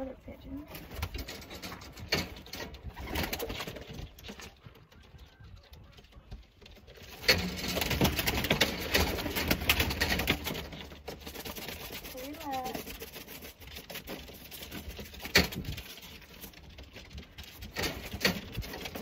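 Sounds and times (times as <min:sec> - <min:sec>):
rustling and clatter: 0:00.0 - 0:19.0
pigeon wings flapping: 0:00.7 - 0:19.0.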